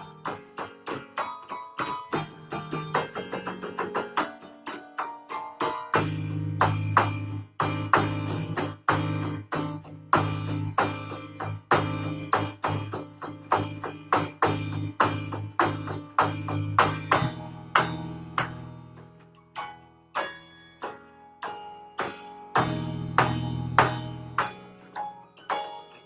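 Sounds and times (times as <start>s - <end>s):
plucked string notes: 0.0s - 26.0s.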